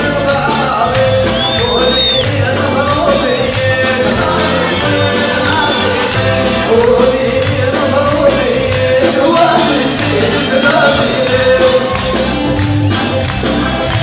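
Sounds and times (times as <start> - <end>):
person singing: 0.0 - 12.6
drums and keyboard band music: 0.0 - 14.0.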